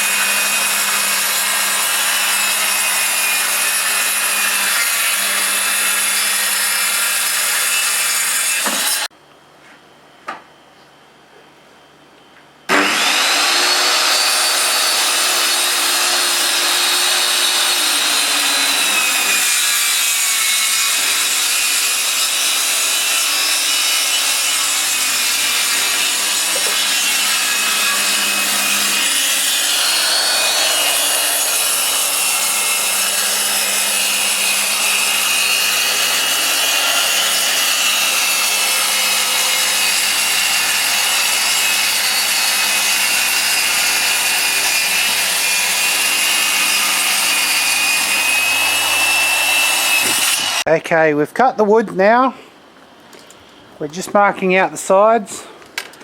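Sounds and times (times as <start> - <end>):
circular saw cutting wood: 0.0 - 9.1, 12.7 - 50.7.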